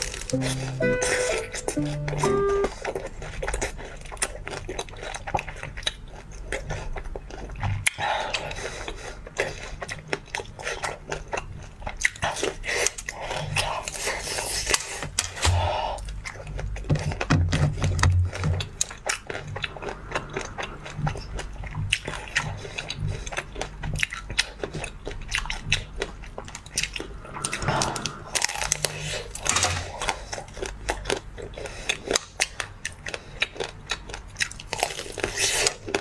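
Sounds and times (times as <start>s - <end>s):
chewing crunchy food: 2.8s - 36.0s.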